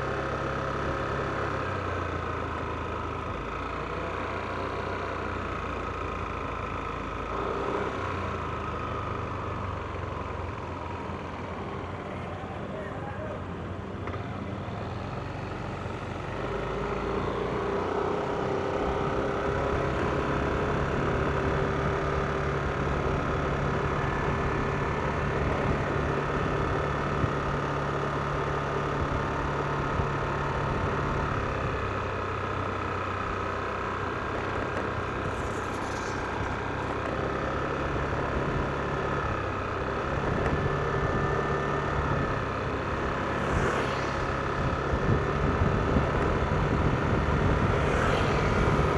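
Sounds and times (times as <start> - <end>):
road and wind noise: 0.0 - 48.9
scooter engine cruising: 0.0 - 48.9.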